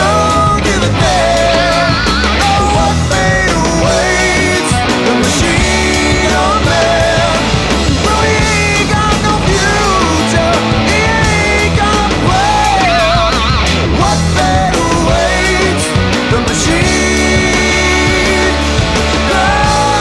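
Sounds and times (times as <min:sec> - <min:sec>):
bass guitar: 0:00.0 - 0:20.0
distorted electric lead guitar: 0:00.0 - 0:20.0
pounding drums: 0:00.0 - 0:20.0.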